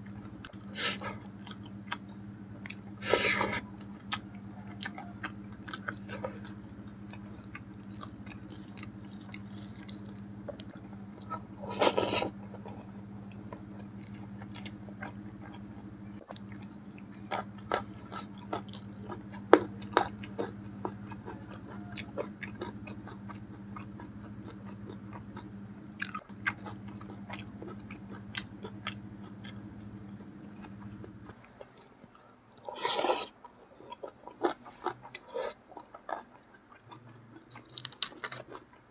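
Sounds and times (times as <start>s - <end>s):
person chewing and smacking: 0.0s - 38.9s
steady low hum: 0.0s - 38.9s.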